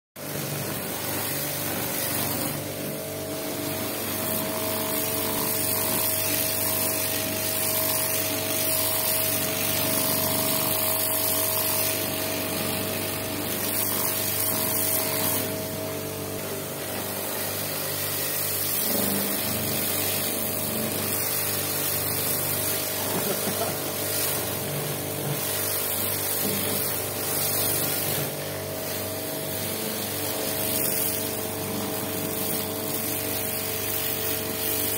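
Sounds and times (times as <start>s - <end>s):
pump hum: 0.2s - 34.9s
water jet hissing on metal: 3.4s - 34.9s.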